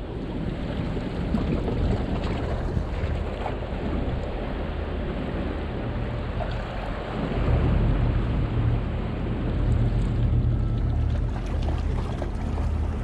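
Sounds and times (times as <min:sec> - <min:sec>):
boat engine droning: 0:00.0 - 0:13.0
water noise: 0:00.0 - 0:13.0
wind: 0:00.0 - 0:13.0.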